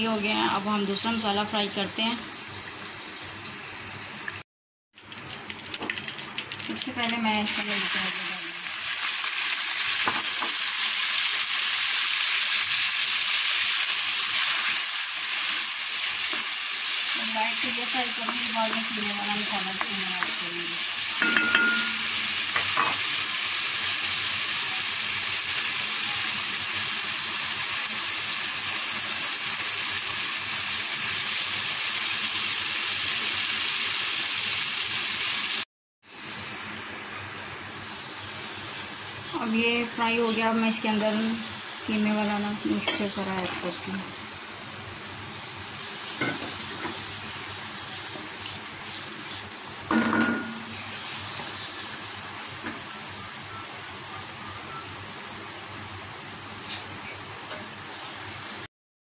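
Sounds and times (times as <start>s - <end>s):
greens sizzling in hot oil: 0.0s - 58.7s.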